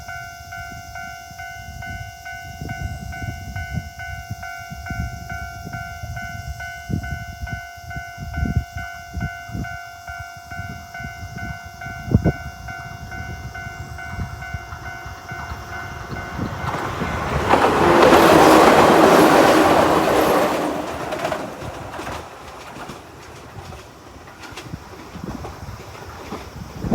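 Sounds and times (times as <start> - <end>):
level crossing warning bell: 0.0 - 22.1
train passing: 0.0 - 26.9.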